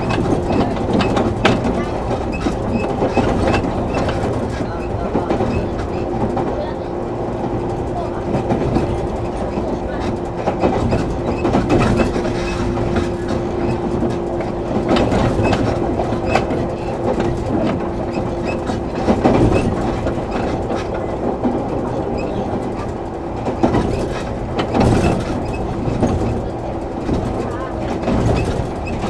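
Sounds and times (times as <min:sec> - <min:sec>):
train hum: 0:00.0 - 0:29.0
wheels clicking over rail joints: 0:00.0 - 0:29.0.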